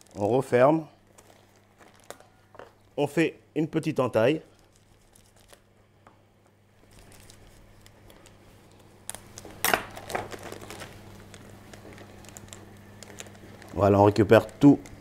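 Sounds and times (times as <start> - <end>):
plastic bag crinkling: 0.0 - 3.0, 4.2 - 5.8, 6.8 - 15.0
low steady hum: 0.0 - 15.0.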